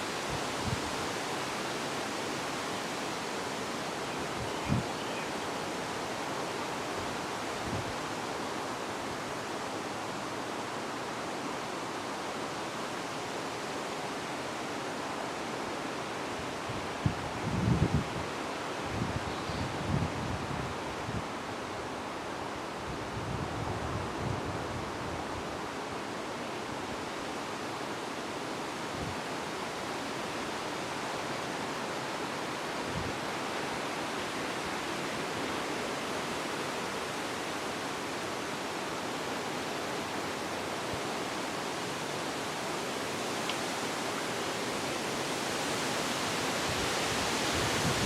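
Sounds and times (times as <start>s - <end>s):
wind rushing through trees: 0.0s - 48.0s.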